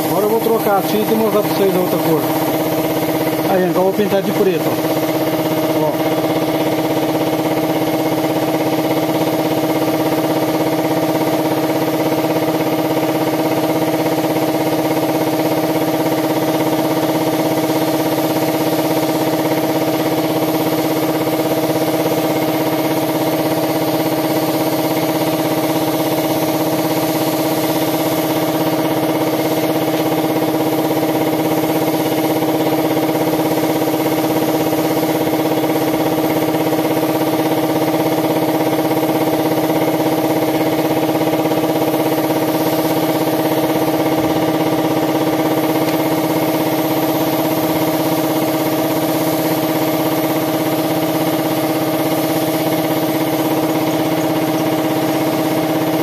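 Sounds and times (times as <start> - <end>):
air compressor humming: 0.0 - 56.0
spray gun hissing: 0.0 - 56.0.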